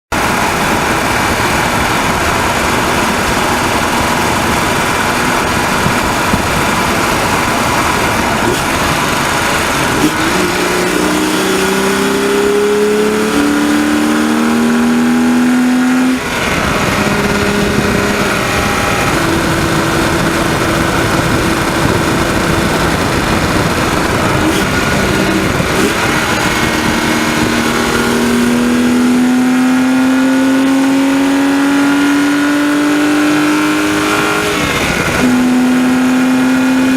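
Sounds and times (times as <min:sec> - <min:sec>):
car engine revving: 0:00.1 - 0:36.9
road and wind noise: 0:00.1 - 0:36.9.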